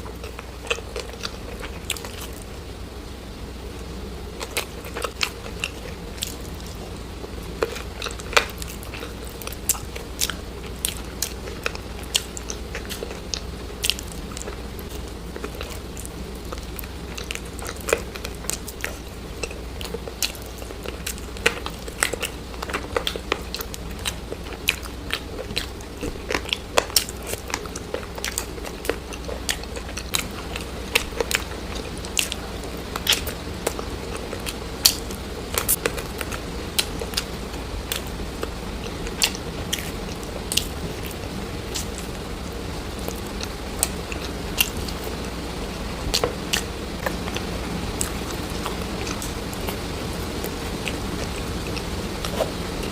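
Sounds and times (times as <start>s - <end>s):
chewing crunchy food: 0.0s - 52.9s
low hum: 0.0s - 52.9s.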